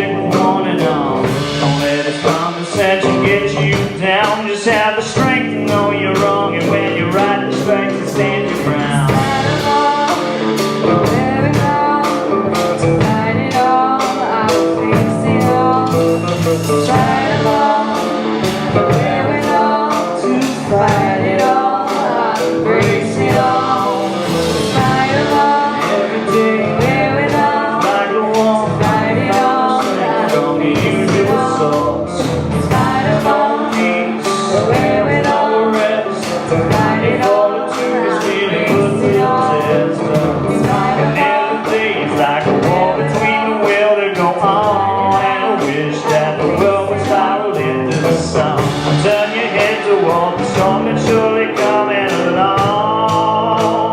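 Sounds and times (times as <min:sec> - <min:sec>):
bass guitar: 0:00.0 - 0:53.9
electric guitar: 0:00.0 - 0:53.9
steady drum beat: 0:00.0 - 0:53.9.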